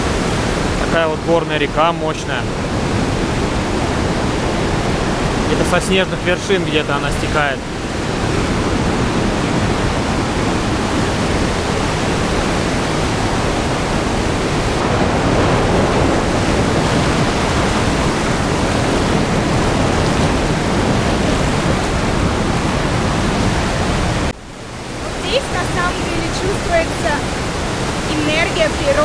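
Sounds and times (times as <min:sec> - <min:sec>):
river rushing: 0:00.0 - 0:29.0.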